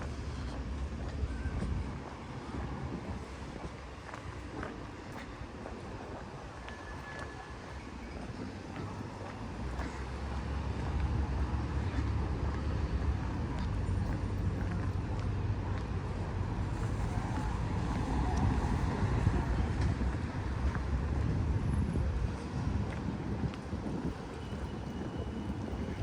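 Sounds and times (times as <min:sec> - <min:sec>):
rumble of road traffic: 0:00.0 - 0:26.0.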